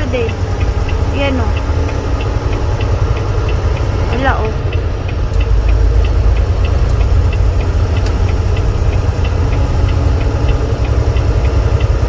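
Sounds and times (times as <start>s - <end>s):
diesel truck engine rumble: 0.0s - 12.0s
light ticking: 0.0s - 12.0s.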